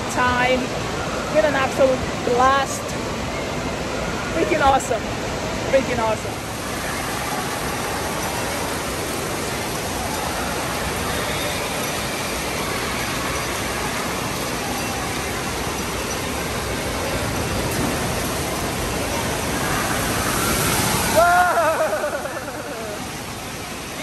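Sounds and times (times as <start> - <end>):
water falling and splashing: 0.3 - 24.0.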